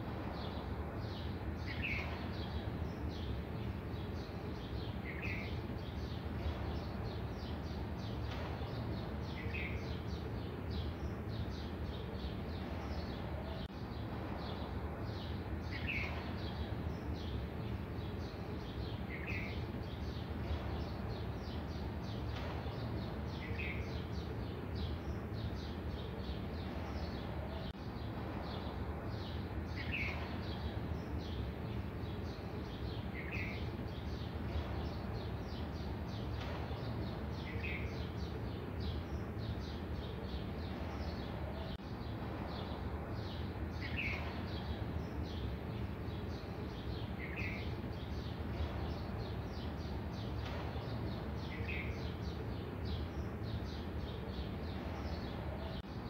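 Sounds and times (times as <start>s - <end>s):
birds chirping: 0.2s - 56.0s.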